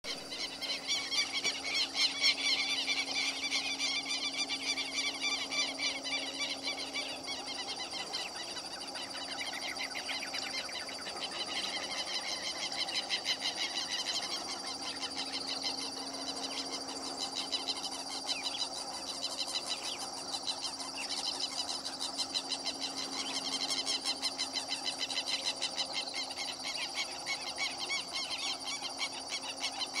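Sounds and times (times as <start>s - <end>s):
faint steady hum: 0.0s - 30.0s
chorus of high chirps and trills: 0.1s - 30.0s.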